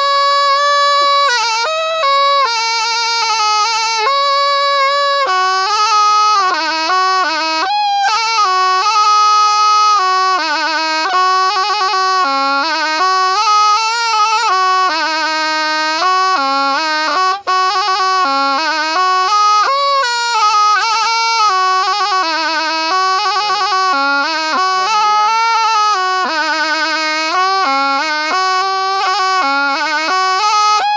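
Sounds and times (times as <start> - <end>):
double-reed oboe melody: 0.0 - 30.9.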